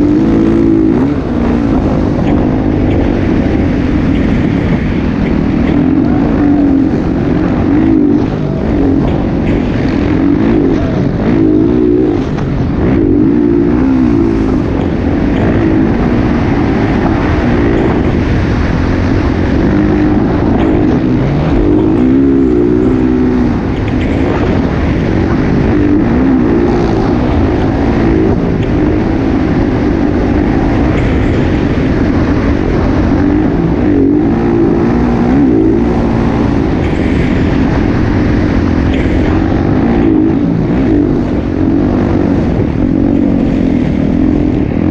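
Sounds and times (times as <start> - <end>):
motocross motorcycle engines revving: 0.0 - 44.9.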